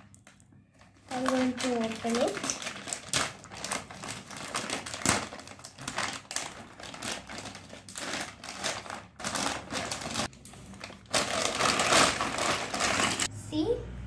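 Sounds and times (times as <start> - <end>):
plastic bag crinkling: 0.0 - 13.3
plastic connectors shifting: 0.0 - 13.3.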